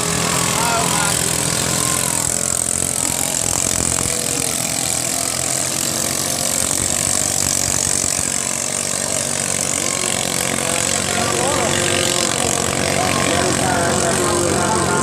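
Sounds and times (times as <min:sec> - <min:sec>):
boat engines running: 0:00.0 - 0:15.0.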